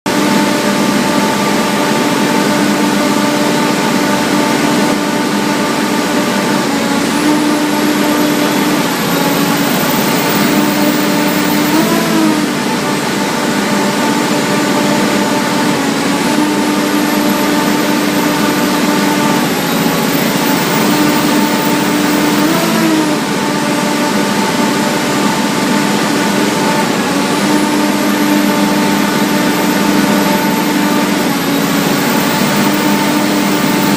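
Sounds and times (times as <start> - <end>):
diesel generator running: 0.1 - 33.9
faint high whine: 0.3 - 12.7, 16.4 - 33.9.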